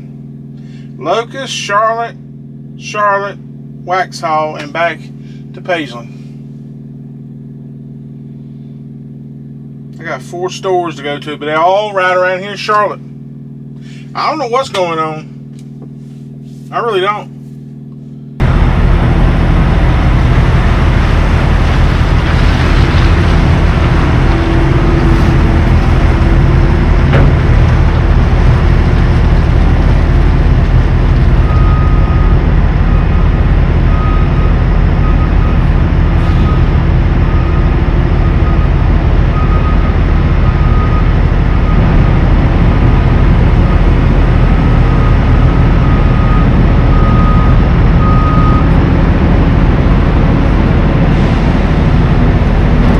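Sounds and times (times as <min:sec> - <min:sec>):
road noise: 0:00.0 - 0:11.1, 0:11.7 - 0:52.9
truck engine drone: 0:00.0 - 0:52.9.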